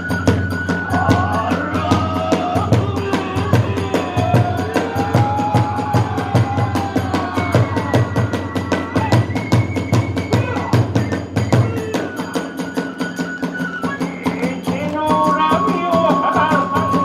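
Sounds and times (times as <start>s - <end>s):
bamboo flute melody: 0.0s - 17.0s
drum strokes: 0.0s - 17.0s.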